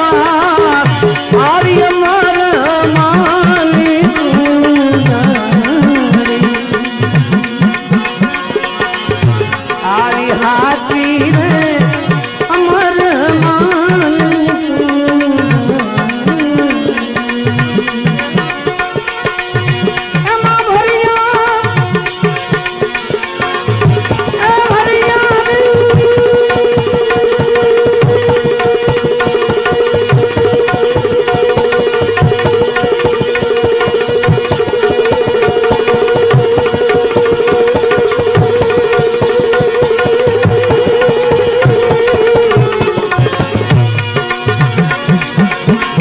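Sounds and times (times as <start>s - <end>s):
hand drums: 0.0s - 46.0s.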